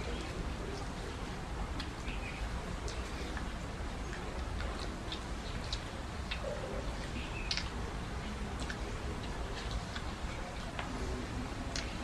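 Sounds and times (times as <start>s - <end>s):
people chewing with wet smacks: 0.0s - 12.0s.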